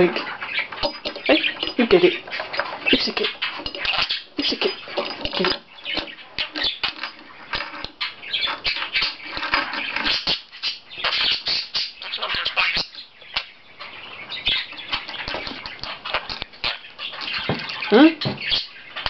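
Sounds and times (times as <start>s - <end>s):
budgerigar chattering and squawking: 0.0s - 19.0s.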